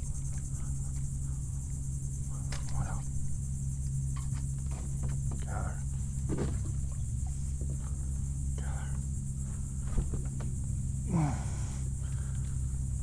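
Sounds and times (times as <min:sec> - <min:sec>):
high-pitched insect trill: 0:00.0 - 0:13.0
low steady rumble: 0:00.0 - 0:13.0.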